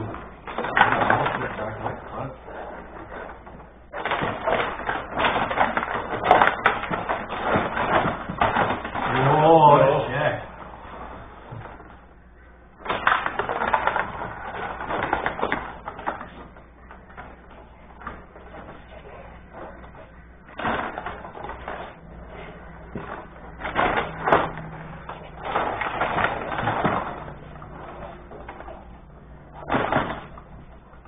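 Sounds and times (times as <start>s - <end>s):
table hockey rods clattering: 0.0s - 12.0s, 12.8s - 31.0s.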